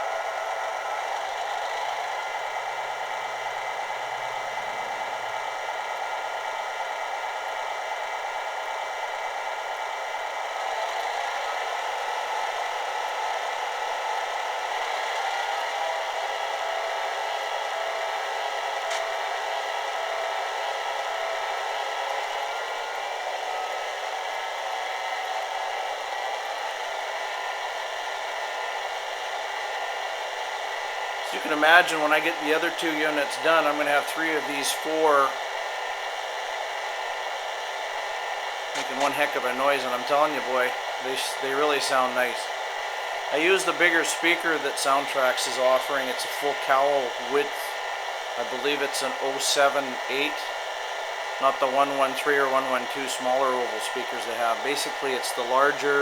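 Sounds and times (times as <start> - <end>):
model diesel engine sound: 0.0 - 56.0.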